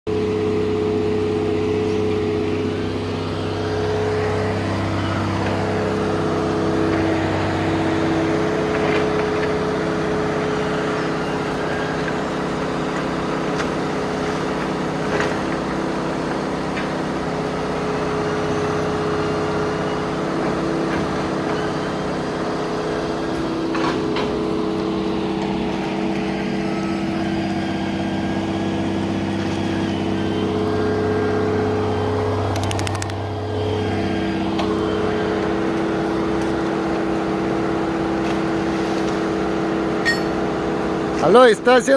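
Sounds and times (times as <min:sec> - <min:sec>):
engine humming: 0:00.1 - 0:41.9.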